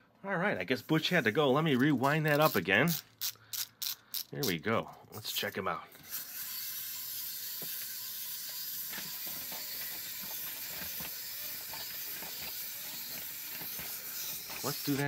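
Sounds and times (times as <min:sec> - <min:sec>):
wind-up toy gears whirring: 0:01.0 - 0:04.6, 0:05.2 - 0:15.0.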